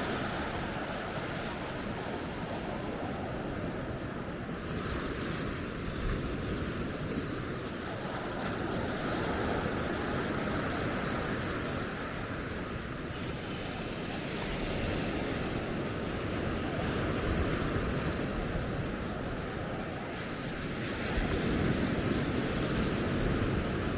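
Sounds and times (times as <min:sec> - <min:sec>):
sea surf breaking on shore: 0:00.0 - 0:23.9
wind on microphone: 0:00.0 - 0:23.9.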